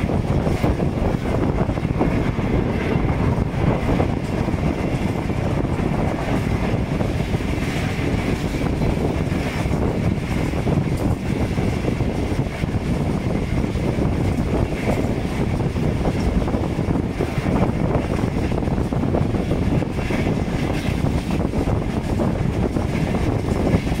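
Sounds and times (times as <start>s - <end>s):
train wheels rumbling on rail: 0.0s - 24.0s
wind rushing on microphone: 0.0s - 24.0s.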